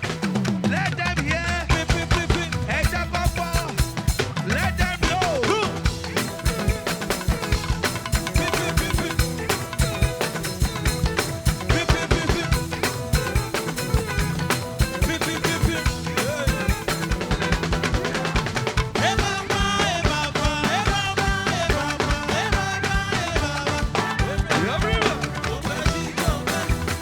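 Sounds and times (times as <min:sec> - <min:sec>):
drum kit beat: 0:00.0 - 0:27.0
live band music: 0:00.0 - 0:27.0
lead melody line: 0:02.0 - 0:27.0.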